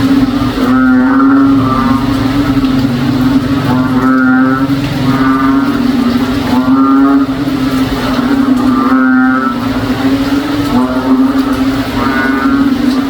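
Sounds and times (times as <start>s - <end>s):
frogs calling in chorus: 0.0s - 13.0s.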